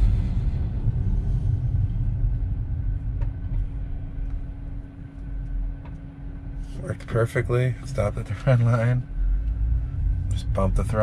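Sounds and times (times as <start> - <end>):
road and tyre rumble in car: 0.0 - 11.0
steady low hum: 0.0 - 11.0.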